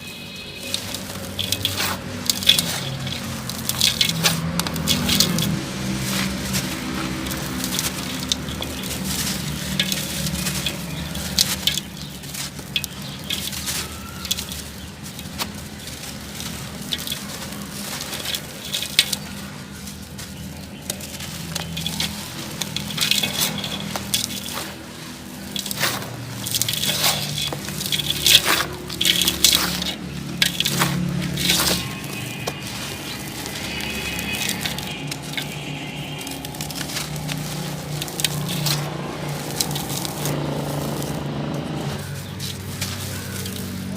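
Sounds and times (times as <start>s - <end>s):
cement chunks crunching by hand: 0.0s - 43.9s.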